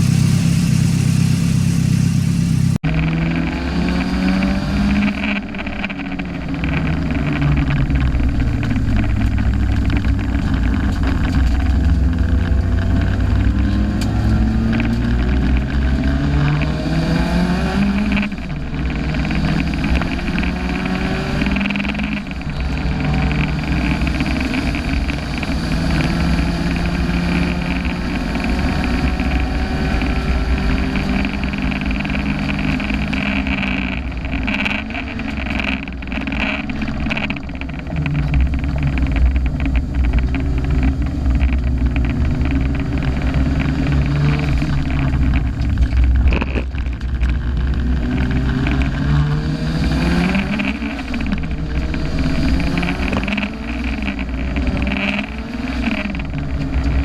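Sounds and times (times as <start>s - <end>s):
turbocharged car engine revving: 0.0s - 57.0s.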